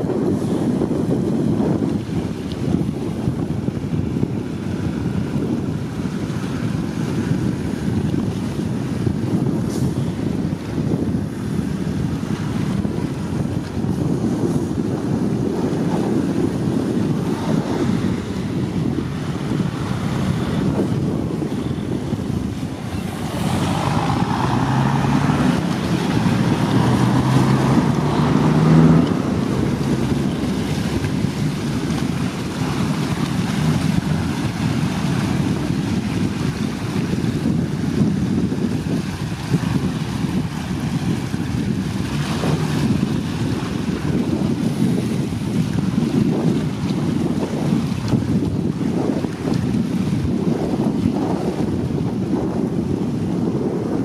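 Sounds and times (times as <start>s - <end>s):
choppy water: 0.0s - 54.0s
wind buffeting microphone: 0.0s - 54.0s.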